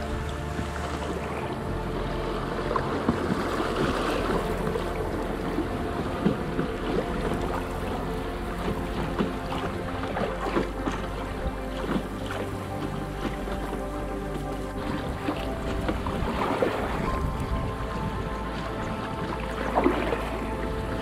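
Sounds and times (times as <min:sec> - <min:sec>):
paddle stroke splashes: 0:00.0 - 0:21.0
water sloshing around raft: 0:00.0 - 0:21.0.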